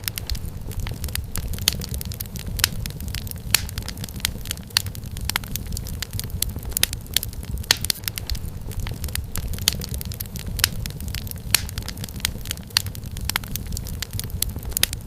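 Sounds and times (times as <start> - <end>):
low rumble of flames: 0.0 - 15.0
wood fire crackling in fireplace: 0.0 - 15.0.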